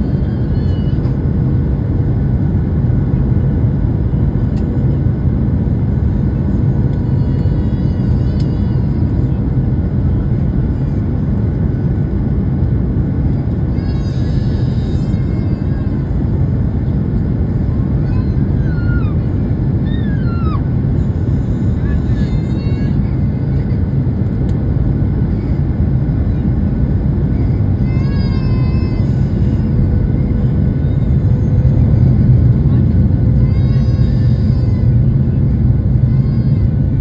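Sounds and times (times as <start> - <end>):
airliner cabin rumble: 0.0 - 37.0.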